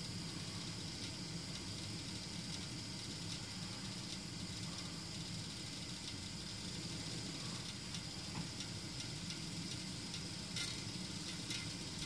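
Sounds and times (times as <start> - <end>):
faint ticks: 0.0 - 12.0
gas stove burning with hiss: 0.0 - 12.0.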